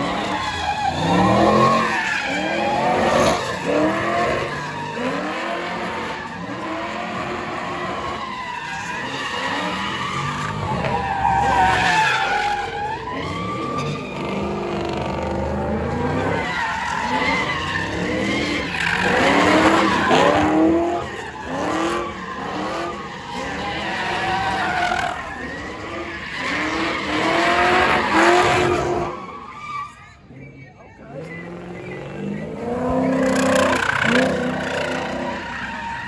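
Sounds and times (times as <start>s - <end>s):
car engine revving: 0.0s - 29.2s, 31.1s - 35.9s
tyres screeching on asphalt: 0.0s - 36.0s.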